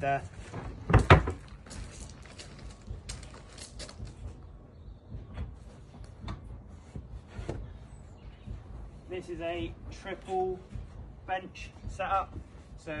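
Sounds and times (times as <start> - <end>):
wooden knocks and clunks: 0.3 - 13.0.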